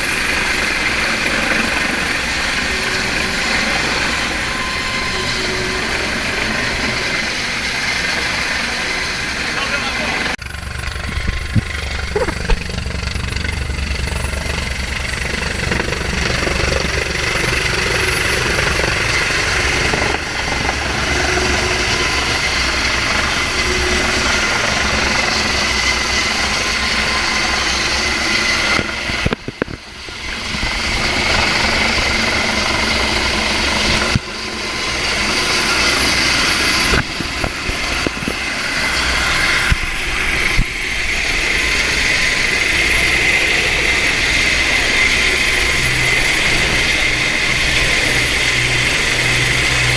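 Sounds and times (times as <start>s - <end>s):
helicopter rotor beating: 0.0s - 49.9s
strong wind: 0.0s - 49.9s.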